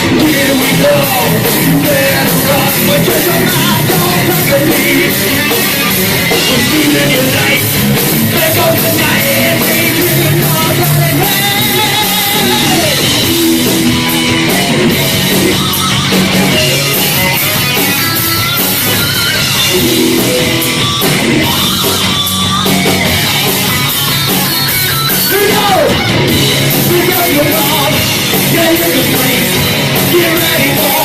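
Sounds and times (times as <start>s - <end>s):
drums: 0.0s - 31.0s
electric guitar: 0.0s - 31.0s
live metal band playing: 0.0s - 31.0s.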